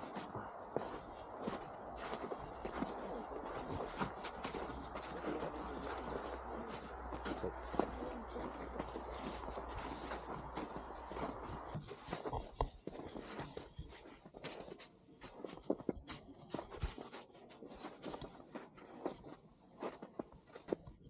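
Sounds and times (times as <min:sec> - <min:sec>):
boots crunching through snow: 0:00.0 - 0:21.0.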